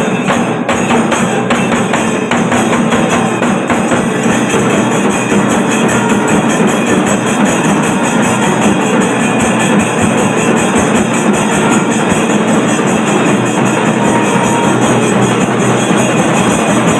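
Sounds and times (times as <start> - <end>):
drums playing fast beat: 0.0 - 16.9
hand cymbals clashing: 0.0 - 16.9.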